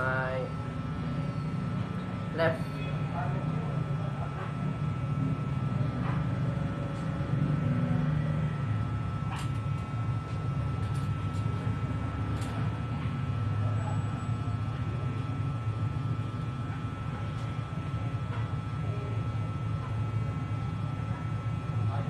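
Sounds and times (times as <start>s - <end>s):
high-pitched hum: 0.0s - 22.0s
low mechanical rumble: 0.0s - 22.0s.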